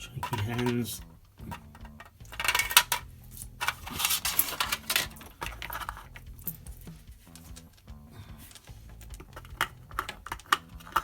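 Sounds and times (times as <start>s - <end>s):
metal barrel clicking and scraping: 0.0s - 11.0s
scratchy rattling: 0.0s - 11.0s.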